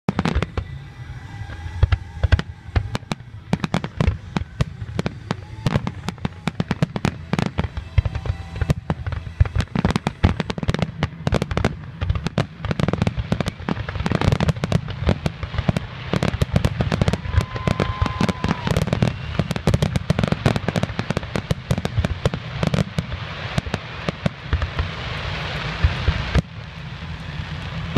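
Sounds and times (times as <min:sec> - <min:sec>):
fireworks bursting and crackling: 0:00.0 - 0:27.9.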